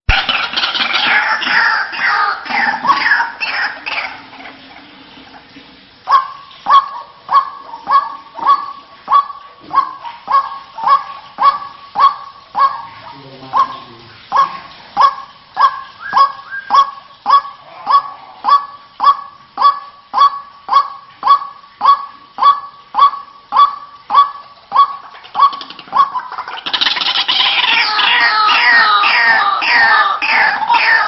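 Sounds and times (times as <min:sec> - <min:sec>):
waterhen calling: 0:00.1 - 0:31.0.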